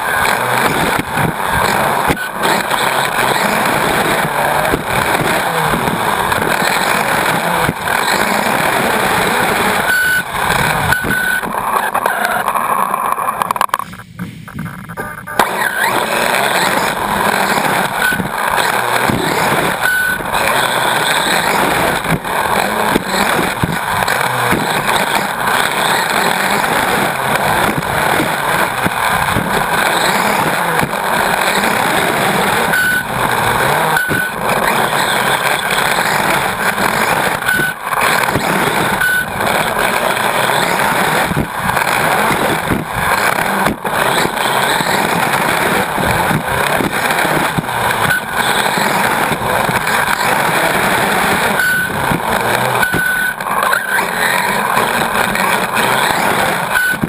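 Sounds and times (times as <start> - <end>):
electric motor whine: 0.0 - 13.6, 15.0 - 57.0
tyre and chassis noise: 0.0 - 57.0.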